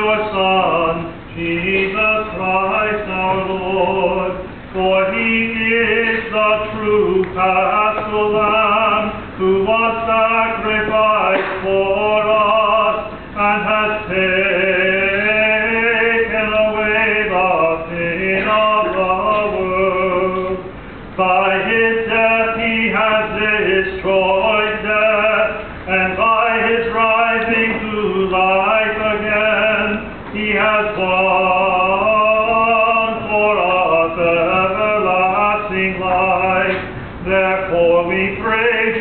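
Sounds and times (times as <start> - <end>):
man chanting a prayer: 0.0 - 39.0.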